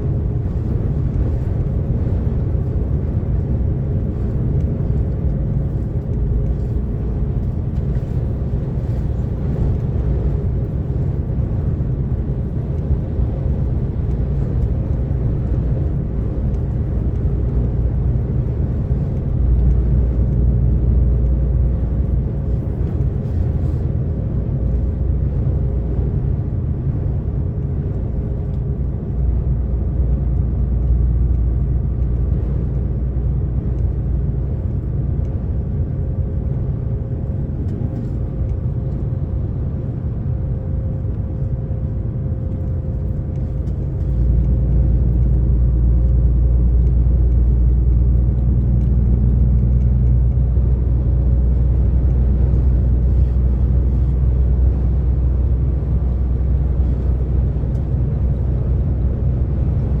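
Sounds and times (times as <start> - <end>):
road rumble: 0.0 - 60.0
truck diesel engine: 0.0 - 60.0.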